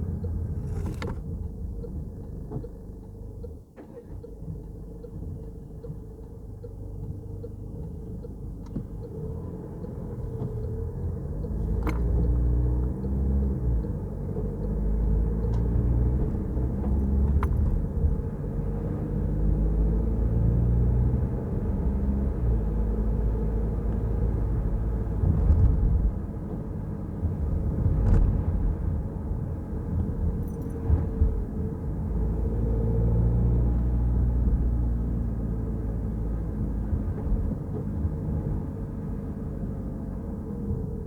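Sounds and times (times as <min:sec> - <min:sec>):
road and engine rumble: 0:00.0 - 0:41.0.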